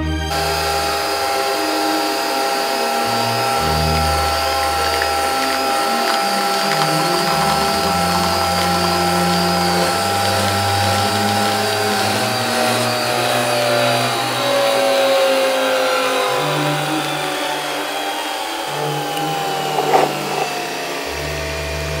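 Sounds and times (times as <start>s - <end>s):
coffee machine whirring: 0.3s - 22.0s.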